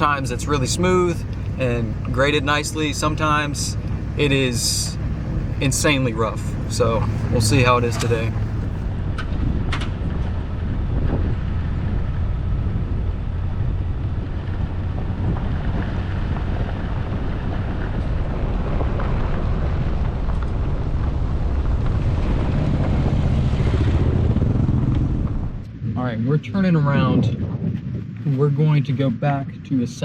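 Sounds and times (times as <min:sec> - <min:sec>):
truck engine drone: 0:00.0 - 0:30.0
tyres rumbling on dirt road: 0:00.0 - 0:30.0.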